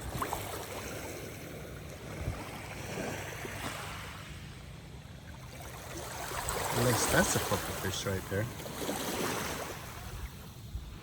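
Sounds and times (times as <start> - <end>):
seawater lapping at shoreline: 0.0 - 11.0.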